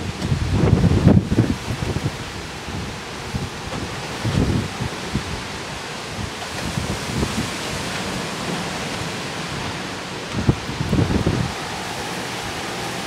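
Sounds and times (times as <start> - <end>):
strong storm wind hissing: 0.0 - 13.0
wind buffeting microphone: 0.0 - 13.0.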